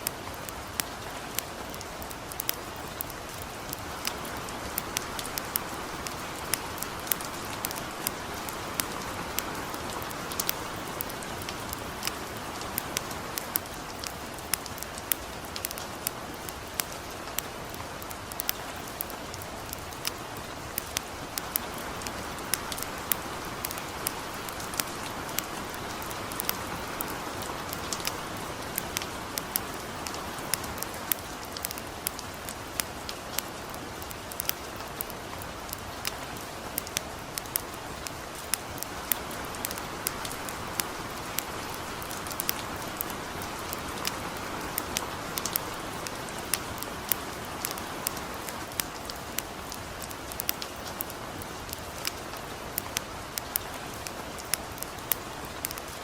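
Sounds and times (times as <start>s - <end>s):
campfire crackling: 0.0s - 56.0s
light rain falling: 0.0s - 56.0s.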